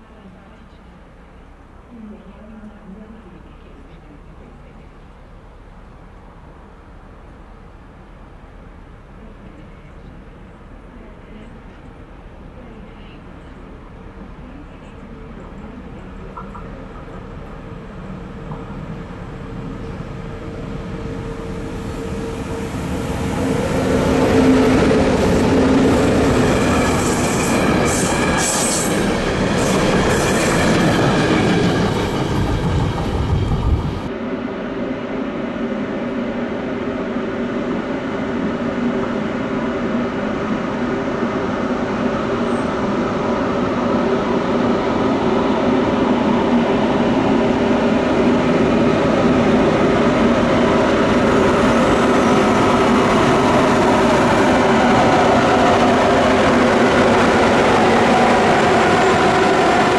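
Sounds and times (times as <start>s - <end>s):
freight train wheel and rail rumble: 0.0s - 59.9s
locomotive blowers humming: 9.2s - 59.9s.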